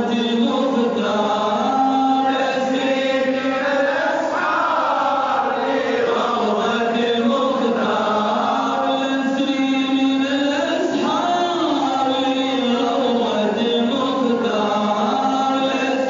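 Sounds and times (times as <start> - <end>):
man chanting devotional song: 0.0 - 4.5, 5.4 - 16.0.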